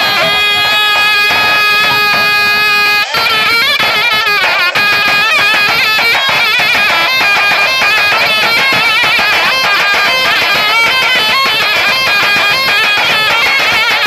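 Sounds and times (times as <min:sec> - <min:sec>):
zurna melody: 0:00.0 - 0:14.0.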